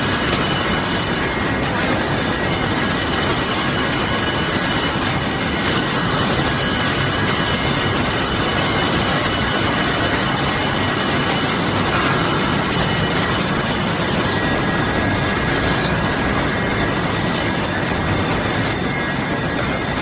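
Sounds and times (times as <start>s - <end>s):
faint high whines: 0.0s - 20.0s
machinery din: 0.0s - 20.0s.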